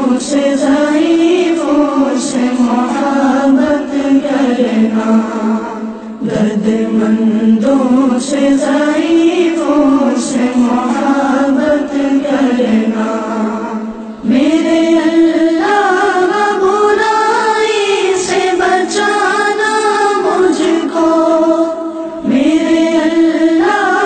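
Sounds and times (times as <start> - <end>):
person chanting a prayer: 0.0 - 24.0.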